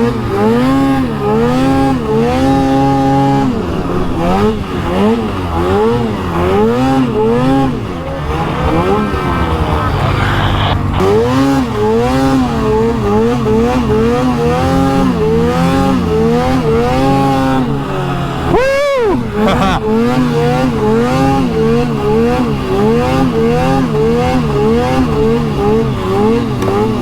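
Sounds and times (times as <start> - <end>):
snowmobile engine revving: 0.0 - 27.0.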